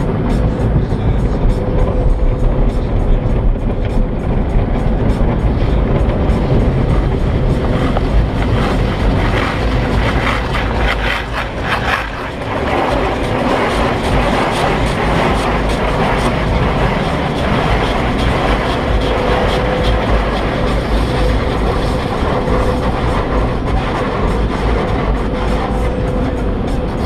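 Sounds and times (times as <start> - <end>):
car wash water spraying: 0.0 - 27.0
low rumble: 0.0 - 27.0.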